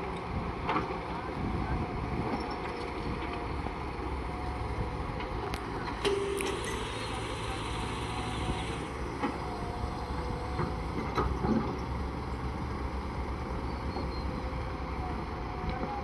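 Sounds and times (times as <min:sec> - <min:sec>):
low machinery rumble: 0:00.0 - 0:16.0.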